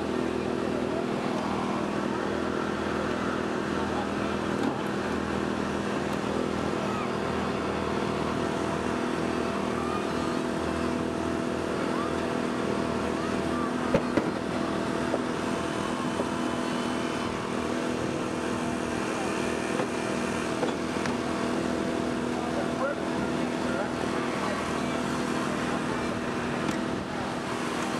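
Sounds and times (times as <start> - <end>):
small petrol engine running: 0.0 - 27.9.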